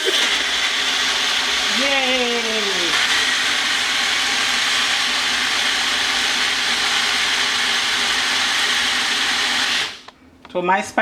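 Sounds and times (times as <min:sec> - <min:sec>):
blender running: 0:00.0 - 0:10.1.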